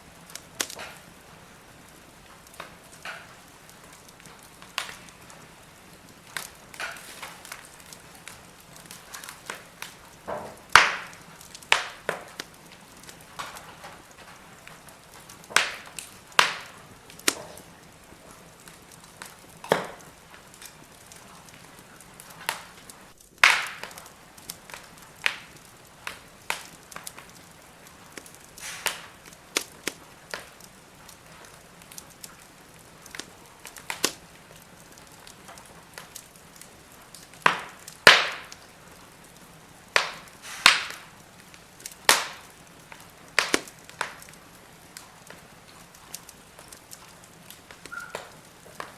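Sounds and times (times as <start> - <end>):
firewood crackling and popping: 0.0 - 48.9
soft fire hiss: 0.0 - 48.9.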